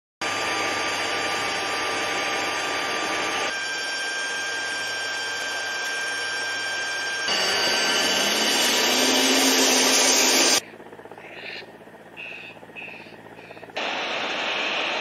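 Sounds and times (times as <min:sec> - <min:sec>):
helicopter turbine engines rushing: 0:00.2 - 0:15.0
high turbine whine: 0:00.2 - 0:15.0.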